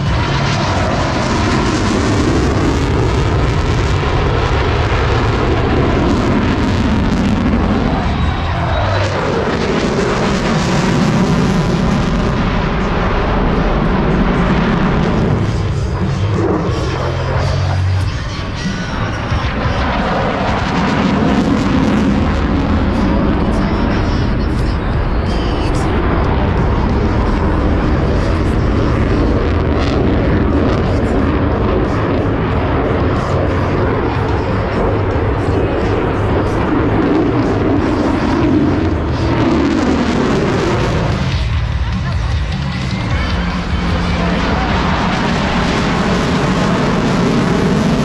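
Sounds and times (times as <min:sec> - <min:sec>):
jet engine roar flying past: 0:00.0 - 0:48.0.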